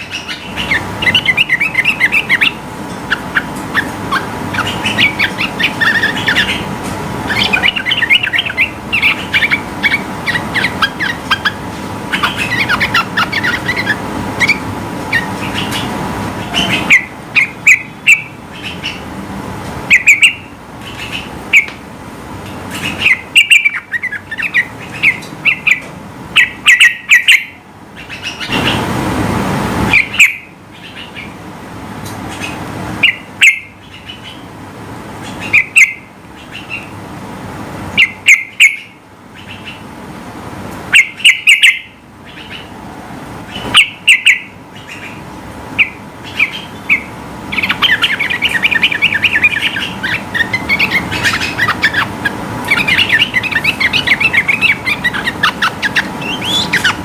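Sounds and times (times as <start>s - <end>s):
bird chirping: 0.0s - 19.1s, 19.9s - 21.8s, 22.5s - 28.8s, 29.9s - 31.4s, 32.0s - 34.6s, 35.2s - 37.0s, 38.0s - 39.9s, 40.9s - 42.8s, 43.5s - 45.2s, 45.8s - 57.0s.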